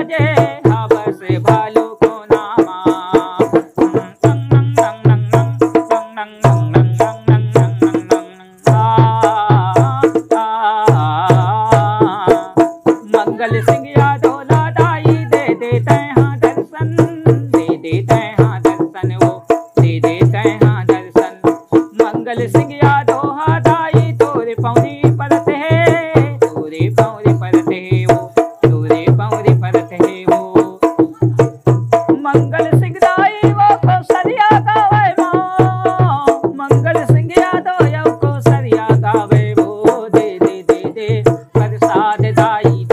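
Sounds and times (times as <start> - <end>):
dholak drum beat: 0.0 - 42.9
man singing: 0.0 - 42.9.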